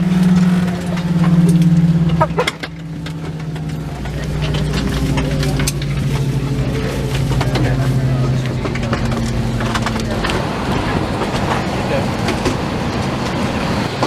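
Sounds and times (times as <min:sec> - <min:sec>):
jet engines winding down: 0:00.0 - 0:14.0.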